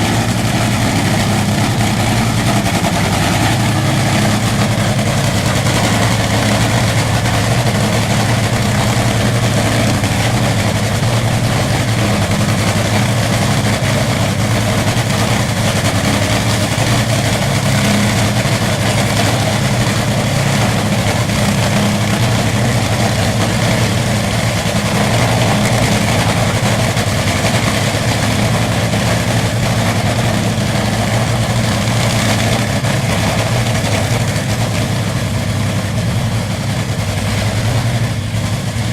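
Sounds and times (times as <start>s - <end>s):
drag racing engine idling: 0.0s - 38.9s.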